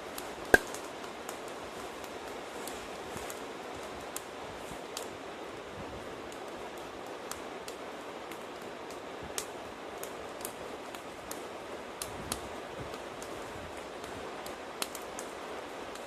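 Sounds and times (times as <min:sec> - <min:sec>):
campfire hissing: 0:00.0 - 0:16.0
fire crackles and pops: 0:00.0 - 0:16.0.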